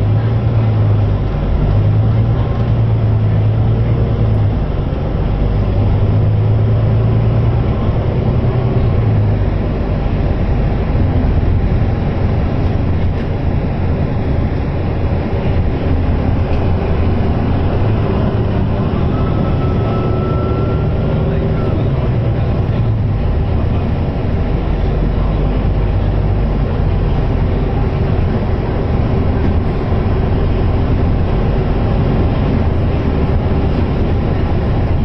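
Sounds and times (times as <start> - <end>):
bus diesel engine drone: 0.0 - 35.0
road noise: 0.0 - 35.0.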